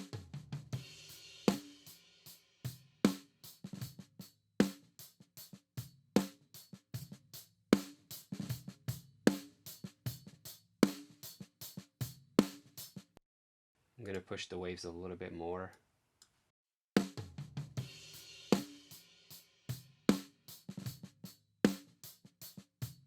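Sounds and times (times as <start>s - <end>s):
drum kit playing a groove: 0.0s - 13.2s, 17.0s - 23.0s.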